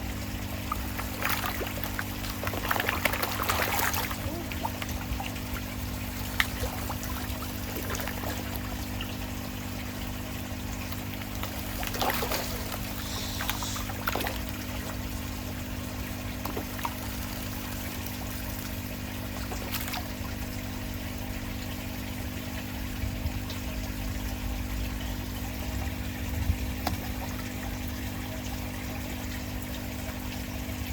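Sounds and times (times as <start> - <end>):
fish splashing at water surface: 0.0 - 29.6
low steady hum: 0.0 - 30.9
trickling water: 0.0 - 30.9.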